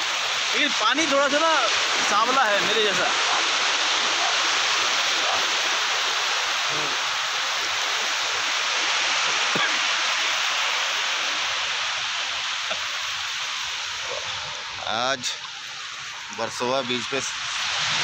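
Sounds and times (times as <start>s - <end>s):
sea surf breaking on shore: 0.0s - 18.0s.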